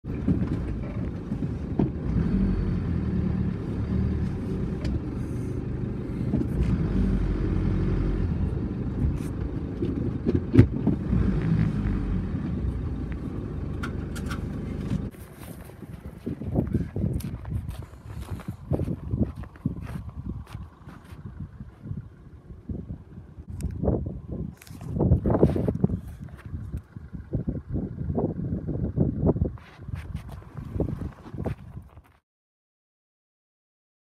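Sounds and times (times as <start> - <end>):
car engine idling: 0.1 - 29.6.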